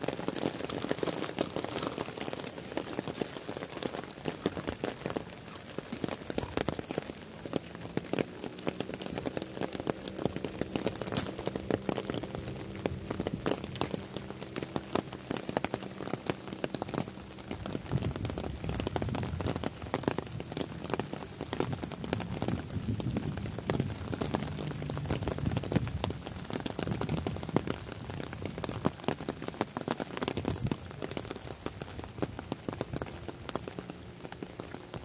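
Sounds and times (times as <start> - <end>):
rain falling on grass and water: 0.0 - 35.0
raindrops ticking: 0.0 - 35.0.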